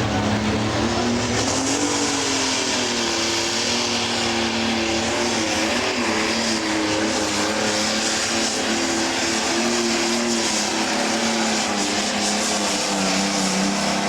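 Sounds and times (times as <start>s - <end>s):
diesel engine at high revs: 0.0s - 14.0s.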